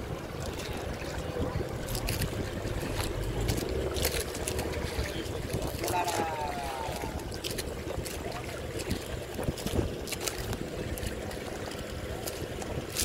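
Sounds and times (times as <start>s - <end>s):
boat motor running: 0.0s - 13.0s
water slapping against hull: 0.0s - 13.0s.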